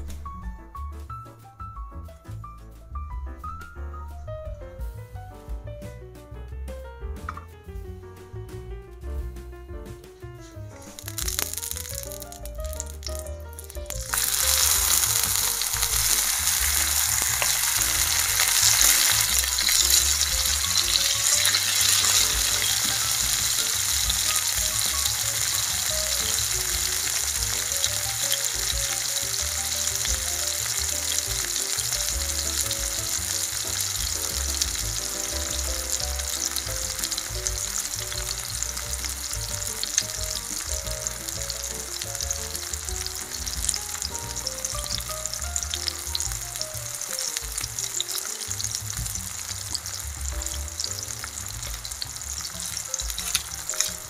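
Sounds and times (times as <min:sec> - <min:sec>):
food sizzling in hot oil: 0:10.7 - 0:54.0.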